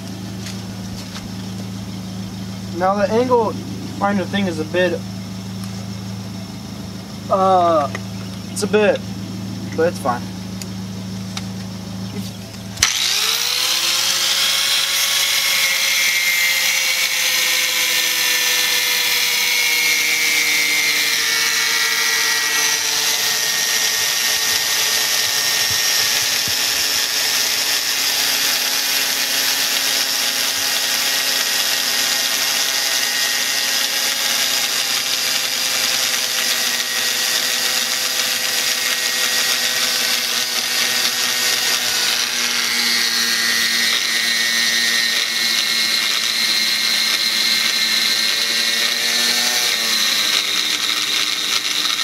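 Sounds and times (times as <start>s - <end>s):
angle grinder cutting metal: 2.6s - 5.0s, 12.2s - 52.0s.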